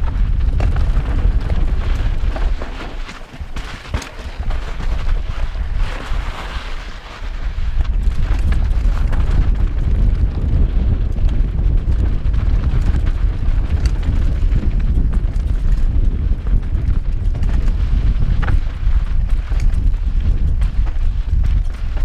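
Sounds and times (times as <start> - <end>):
bike knocks and rattles: 0.0 - 6.9, 7.6 - 22.0
wind buffeting microphone: 0.0 - 22.0.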